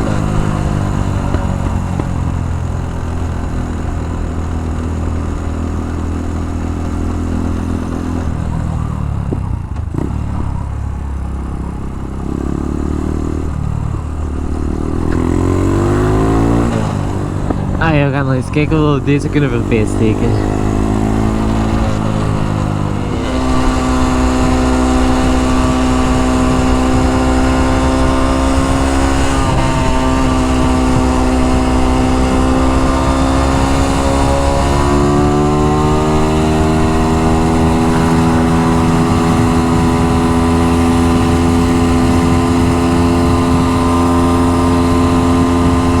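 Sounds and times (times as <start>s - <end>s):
minibike engine running: 0.0s - 46.0s.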